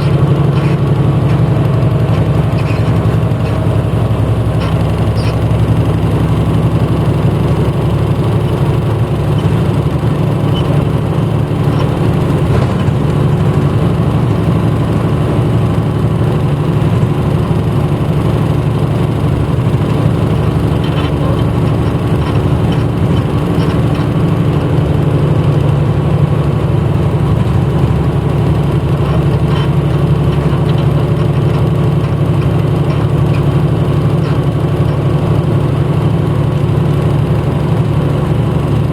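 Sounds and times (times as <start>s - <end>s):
bus engine droning: 0.0s - 38.9s.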